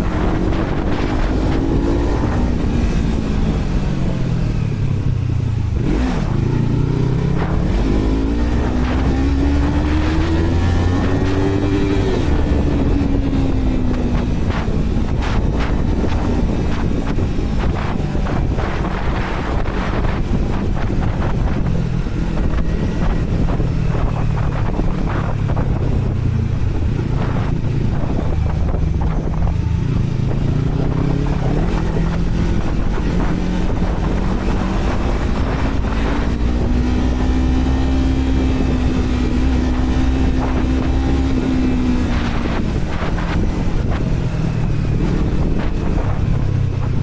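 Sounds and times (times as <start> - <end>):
motorcycle engine running: 0.0 - 47.0
wind noise on microphone: 0.0 - 47.0.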